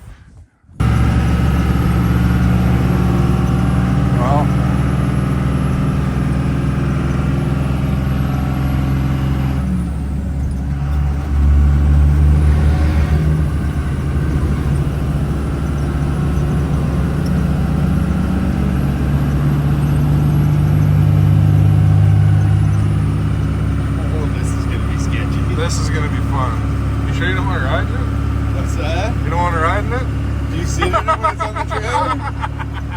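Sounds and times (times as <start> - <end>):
diesel engine under load: 0.8 - 32.9.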